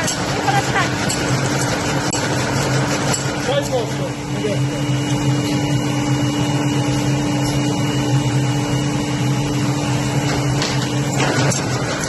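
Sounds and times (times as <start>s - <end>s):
machine humming and whining: 0.0s - 12.0s.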